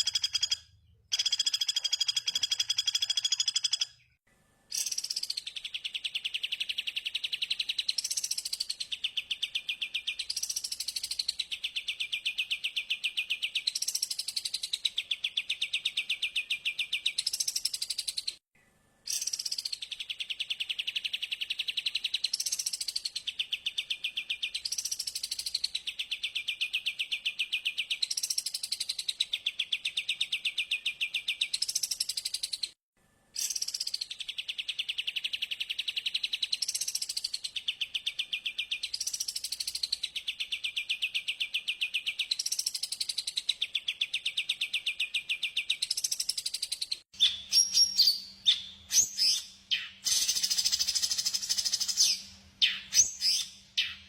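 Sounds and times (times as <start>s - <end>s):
songbird chirping trill: 0.0s - 18.4s, 19.1s - 32.8s, 33.4s - 54.0s.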